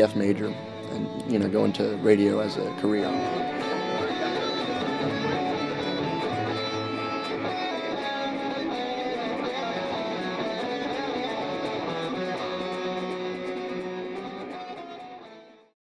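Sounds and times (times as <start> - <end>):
rock band music: 0.0 - 15.5.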